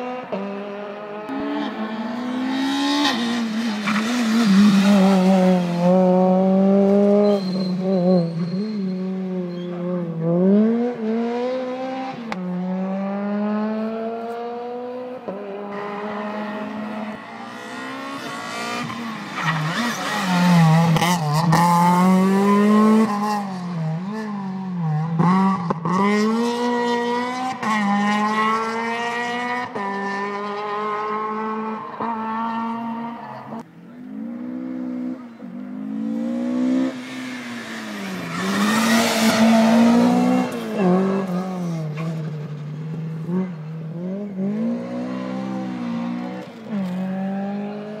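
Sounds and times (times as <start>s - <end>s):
rally car engines revving: 0.0s - 48.0s
tyre and road noise rush: 0.0s - 48.0s.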